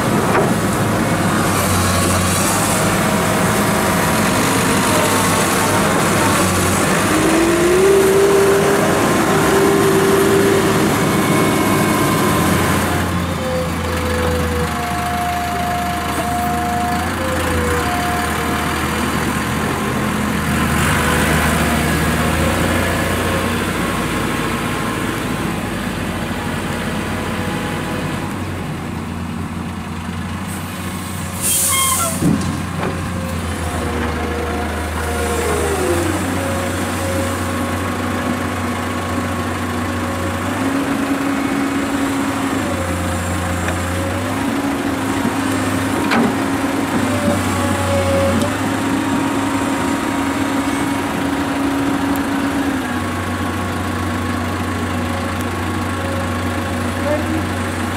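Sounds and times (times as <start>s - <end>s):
excavator diesel engine: 0.0s - 57.9s.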